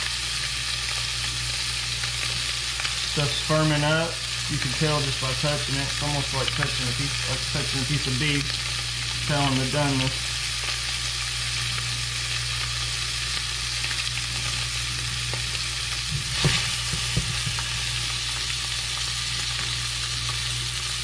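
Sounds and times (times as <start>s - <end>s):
fish sizzling in oil: 0.0s - 21.0s.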